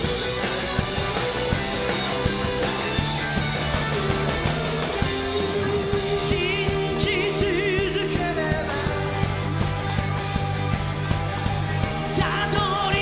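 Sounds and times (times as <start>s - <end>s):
bass guitar: 0.0s - 13.0s
drums with steady beat: 0.0s - 13.0s
electric guitar: 0.0s - 13.0s.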